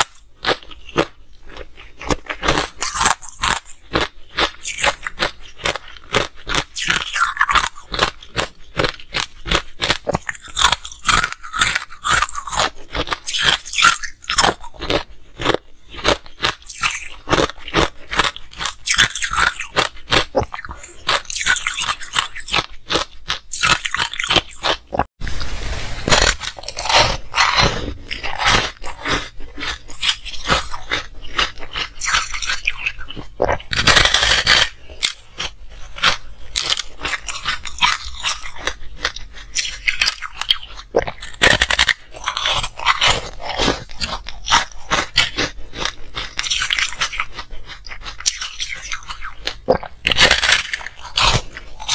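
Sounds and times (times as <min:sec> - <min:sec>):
crunching and chewing ice: 0:00.0 - 0:25.1, 0:25.8 - 0:51.9
teeth biting into ice: 0:00.0 - 0:25.1, 0:26.1 - 0:51.9.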